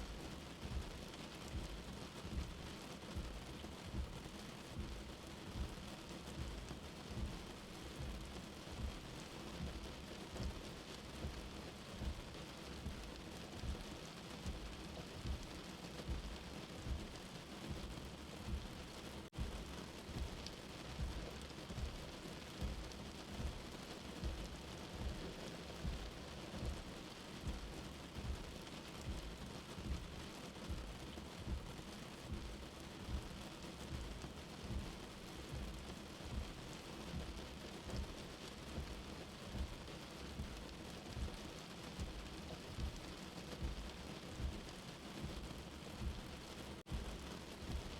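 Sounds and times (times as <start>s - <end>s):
heartbeat thumping: 0.0s - 47.9s
rain heard from indoors: 0.0s - 47.9s.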